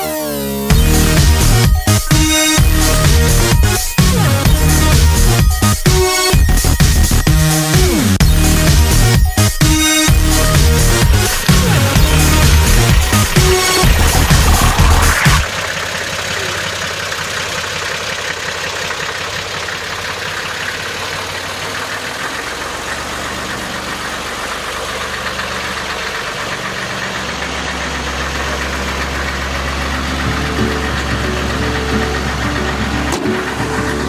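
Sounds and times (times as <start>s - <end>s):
diesel engines idling: 0.0s - 34.0s.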